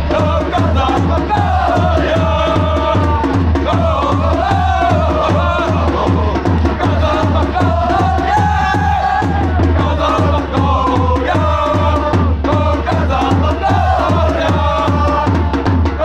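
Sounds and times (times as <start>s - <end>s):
bass drum beat: 0.0s - 16.0s
football supporters chanting: 0.0s - 16.0s.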